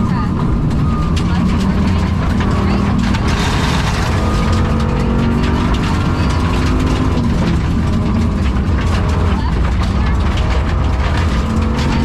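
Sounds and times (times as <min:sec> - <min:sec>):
rally car engine under load: 0:00.0 - 0:12.0
sharp ticks and rattles: 0:00.5 - 0:12.0.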